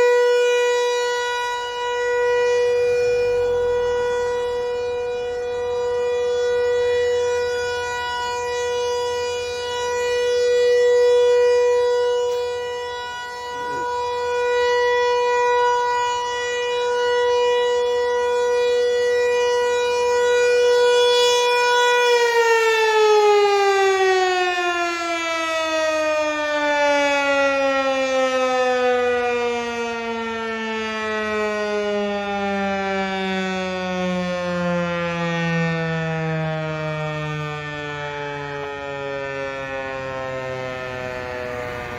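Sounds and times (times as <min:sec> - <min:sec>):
rotating warning siren: 0:00.0 - 0:41.9.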